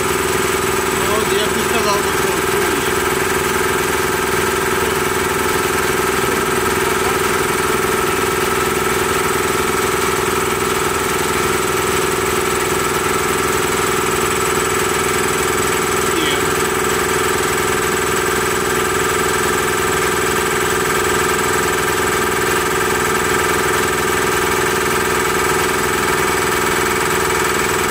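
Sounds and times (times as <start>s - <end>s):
air compressor running: 0.0s - 27.9s.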